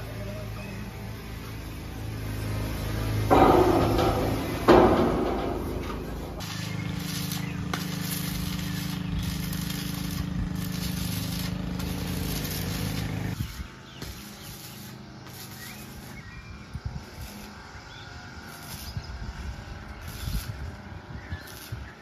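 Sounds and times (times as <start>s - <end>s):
arc welding buzzing hiss: 0.0s - 22.0s.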